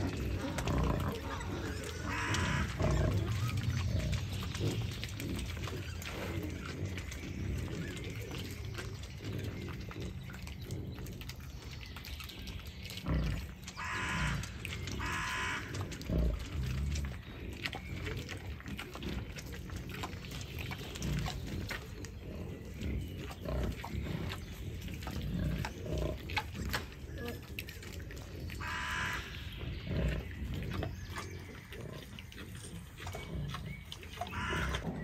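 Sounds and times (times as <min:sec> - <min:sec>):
wild boar grunting and snuffling: 0:00.0 - 0:35.0.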